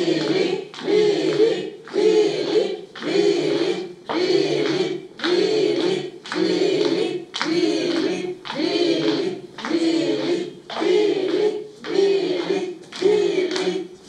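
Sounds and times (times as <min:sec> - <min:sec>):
group chanting a name: 0:00.0 - 0:14.0.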